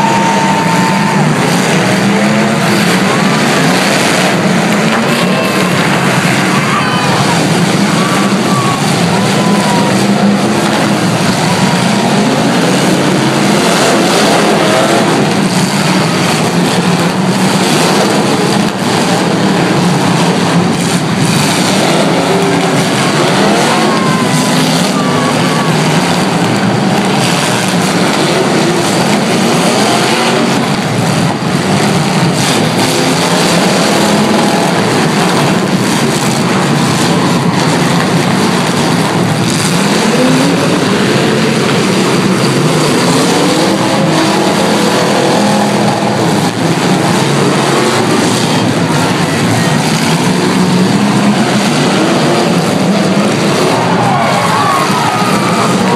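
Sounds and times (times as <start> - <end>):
car engines revving: 0.0 - 55.9.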